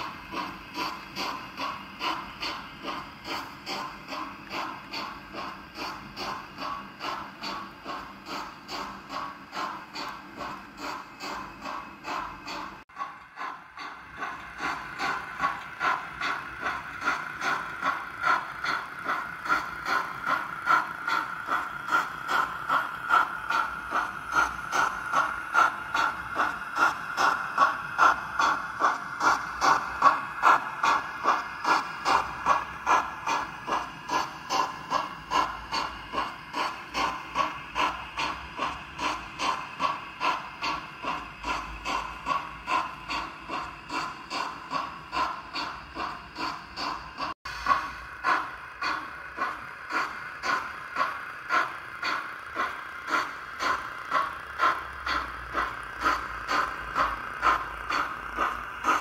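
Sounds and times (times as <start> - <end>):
model steam locomotive chuffing: 0.0 - 59.0.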